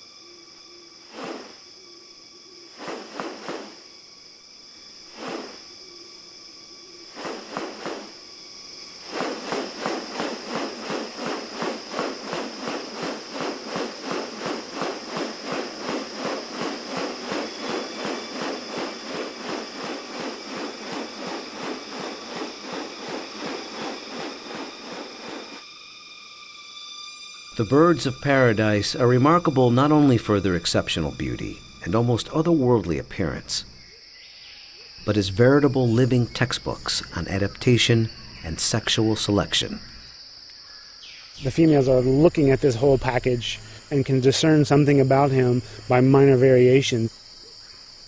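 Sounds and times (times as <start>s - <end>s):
insects high-pitched drone: 0.0s - 48.0s
insects rhythmic pulsing: 0.0s - 48.0s.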